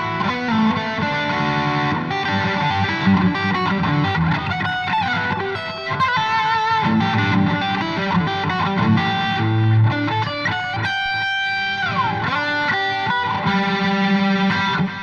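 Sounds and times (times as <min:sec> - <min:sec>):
overdriven electric guitar lead: 0:00.0 - 0:15.0.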